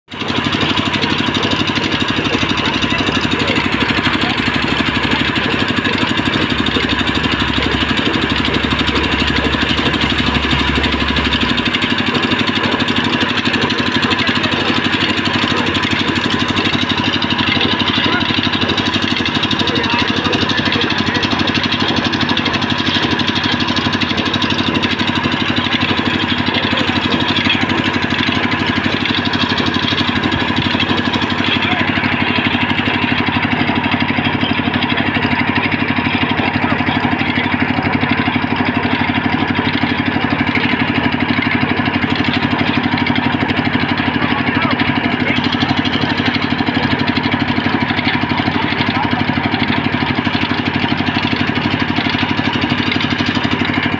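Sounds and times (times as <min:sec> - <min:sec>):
band saw cutting log: 0:00.1 - 0:53.9
engine running steadily: 0:00.1 - 0:53.9.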